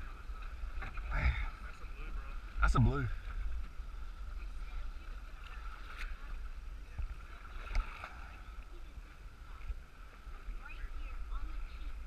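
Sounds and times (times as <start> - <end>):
water washing along hull: 0.0 - 12.0.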